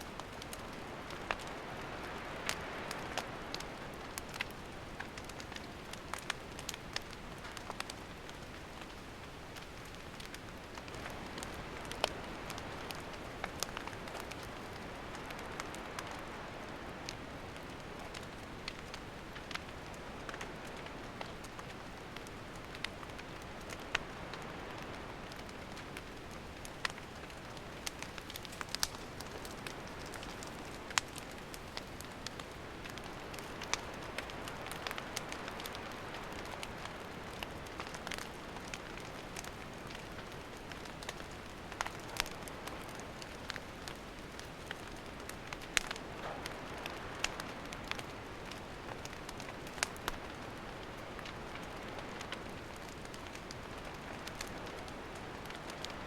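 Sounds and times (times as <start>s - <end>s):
campfire crackling and hissing: 0.0s - 56.0s.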